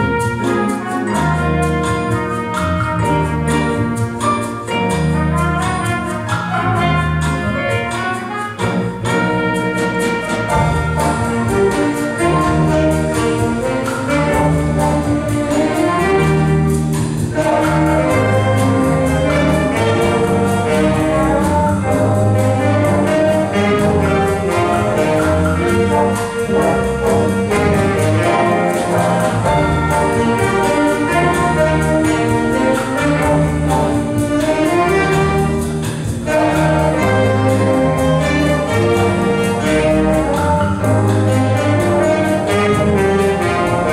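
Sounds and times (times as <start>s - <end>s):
brass band playing held chords: 0.0s - 43.9s.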